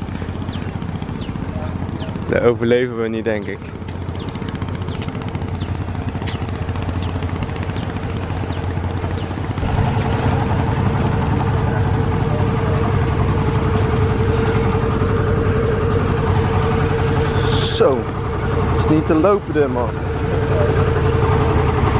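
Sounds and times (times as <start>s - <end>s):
boat engine droning: 0.0s - 21.9s.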